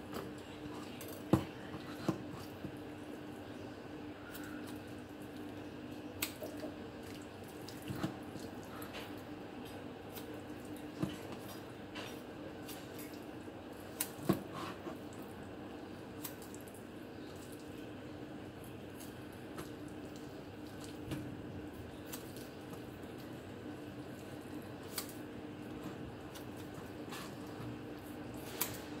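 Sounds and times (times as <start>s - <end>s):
steady low hum: 0.0s - 29.0s
wet squishing of meat: 4.1s - 29.0s.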